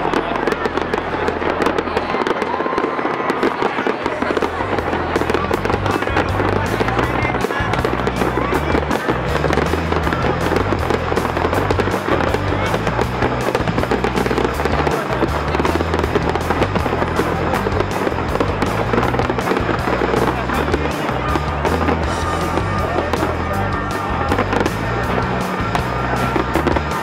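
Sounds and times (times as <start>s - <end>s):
fireworks bursting and crackling: 0.0s - 27.0s
music playing: 0.0s - 27.0s.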